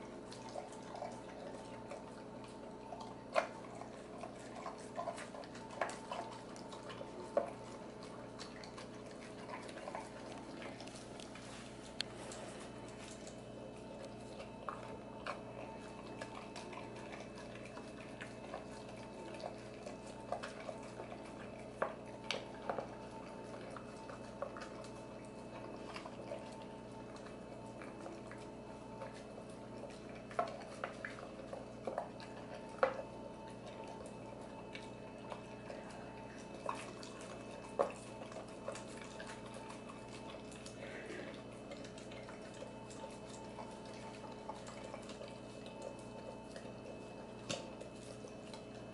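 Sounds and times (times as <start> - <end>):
dog chewing and licking: 0.0 - 48.9
steady hum: 0.0 - 48.9.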